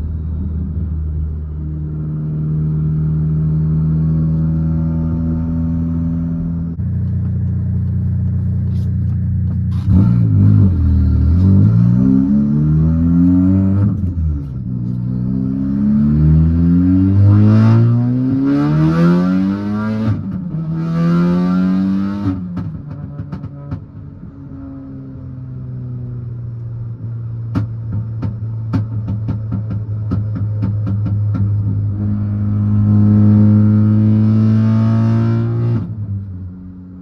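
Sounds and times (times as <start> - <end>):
car engine accelerating through gears: 0.0 - 37.0.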